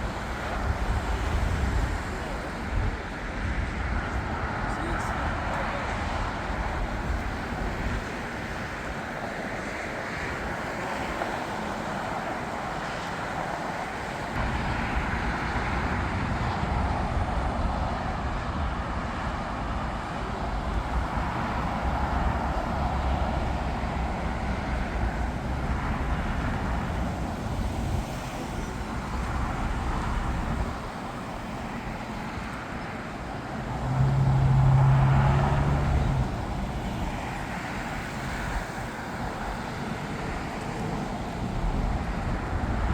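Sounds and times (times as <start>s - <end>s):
road traffic roar: 0.0s - 42.9s.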